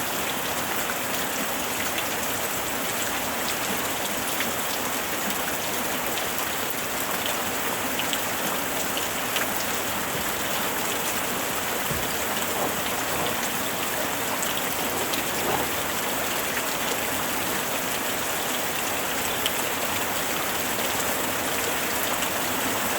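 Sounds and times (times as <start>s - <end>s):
light rain falling: 0.0s - 22.9s.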